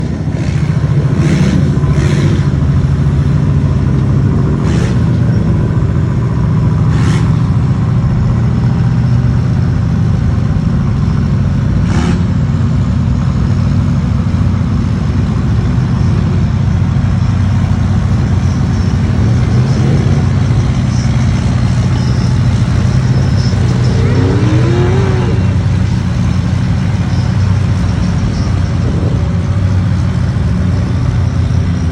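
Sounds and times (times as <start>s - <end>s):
truck engine running loudly: 0.0s - 31.9s.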